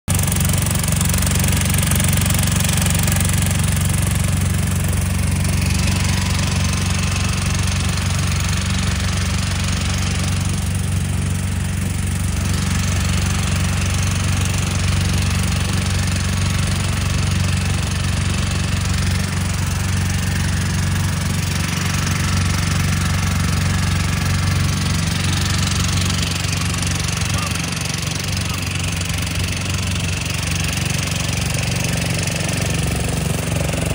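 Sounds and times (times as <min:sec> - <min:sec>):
boat motor droning: 0:00.1 - 0:33.9.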